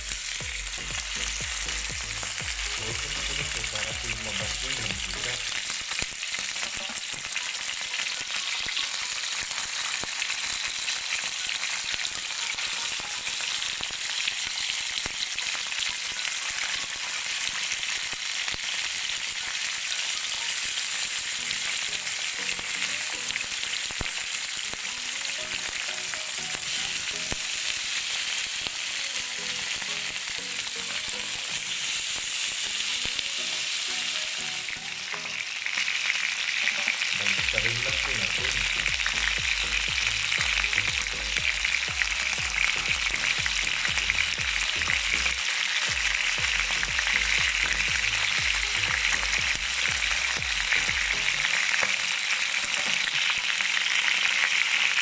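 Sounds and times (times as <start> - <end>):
chicken sizzling in a wok: 0.0 - 55.0.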